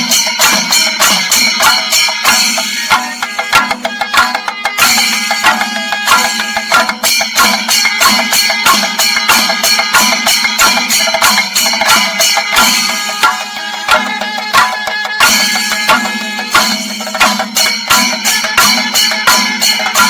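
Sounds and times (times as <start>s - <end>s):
cymbals ringing: 0.0s - 20.0s
drums in fast rolls: 0.0s - 20.0s.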